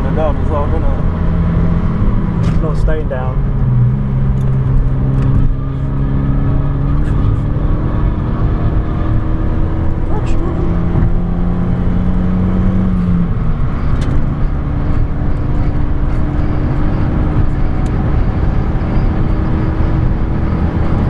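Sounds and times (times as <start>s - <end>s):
car engine revving: 0.0s - 21.0s
road and tyre rumble: 0.0s - 21.0s.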